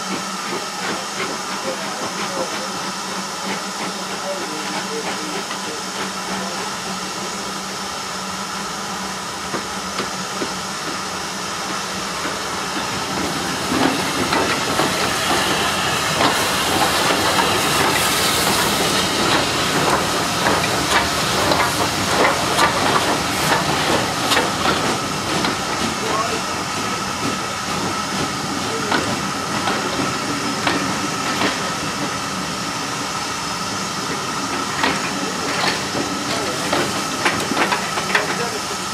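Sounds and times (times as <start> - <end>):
train wheels clicking on rail joints: 0.0 - 7.5, 9.4 - 33.1, 33.7 - 38.9
locomotive rumble: 0.0 - 38.9
steam hissing: 0.0 - 38.9.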